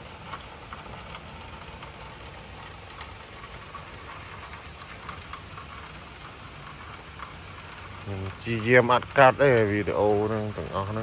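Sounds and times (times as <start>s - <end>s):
low steady rumble: 0.0s - 11.0s
steady rain: 0.0s - 11.0s.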